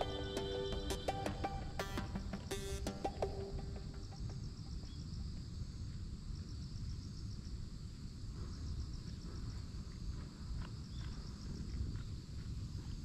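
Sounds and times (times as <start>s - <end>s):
insects chirping in trills: 0.0s - 13.0s.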